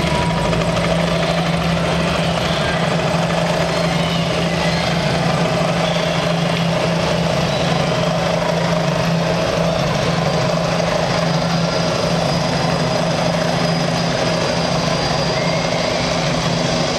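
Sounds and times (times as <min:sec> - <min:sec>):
helicopter rotor and engine noise: 0:00.0 - 0:16.9.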